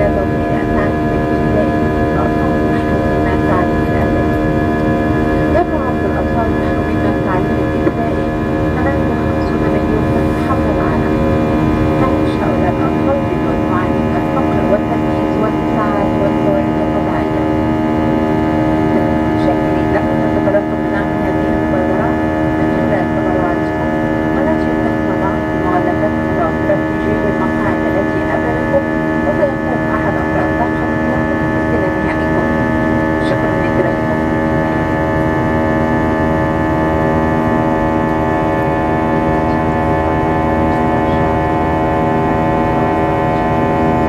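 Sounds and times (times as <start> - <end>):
airliner cabin air-conditioning hum: 0.0 - 44.0.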